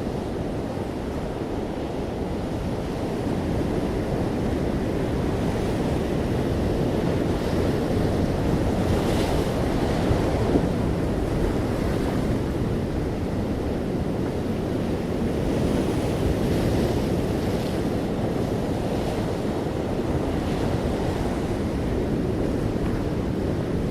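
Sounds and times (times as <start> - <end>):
sea waves breaking gently: 0.0 - 23.9.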